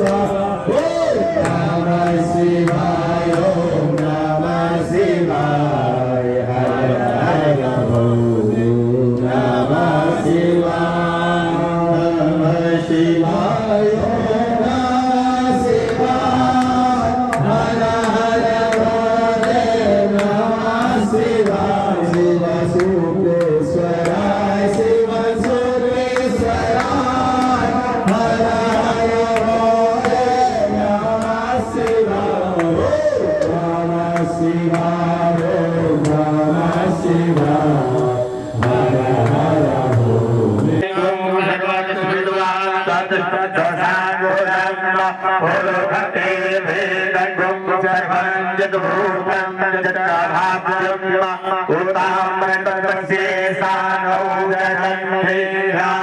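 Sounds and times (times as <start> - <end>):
voices chanting a sung melody: 0.0 - 56.0.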